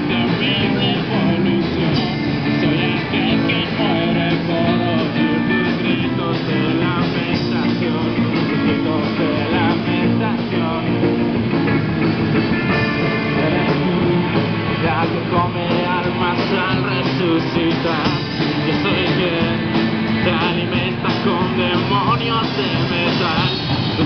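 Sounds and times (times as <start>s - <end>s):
bass guitar: 0.0s - 24.0s
drums: 0.0s - 24.0s
electric guitars: 0.0s - 24.0s.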